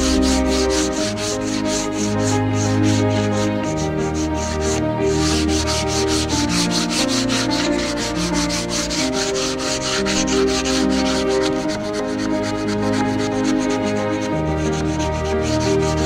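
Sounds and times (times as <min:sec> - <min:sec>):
background music: 0:00.0 - 0:16.0
hand sanding wood: 0:00.0 - 0:16.0.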